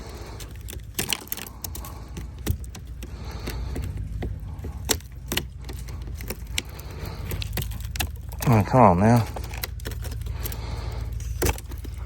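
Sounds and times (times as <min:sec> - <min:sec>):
ice chipping and scraping: 0:00.0 - 0:12.0
low steady hum: 0:00.0 - 0:12.0.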